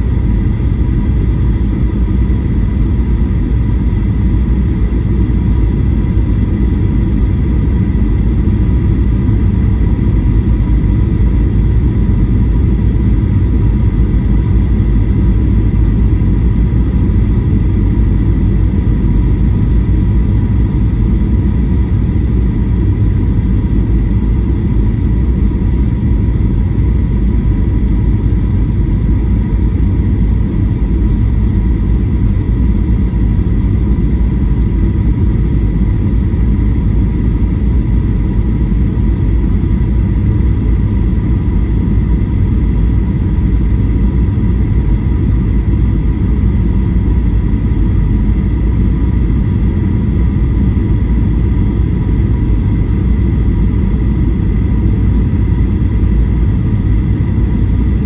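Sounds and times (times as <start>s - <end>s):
faint steady whine: 0.0s - 58.0s.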